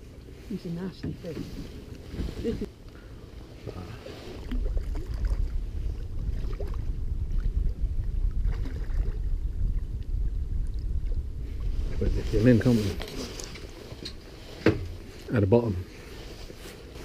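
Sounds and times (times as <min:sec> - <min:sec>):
wind rumbling on microphone: 0:00.0 - 0:02.7, 0:03.3 - 0:17.0.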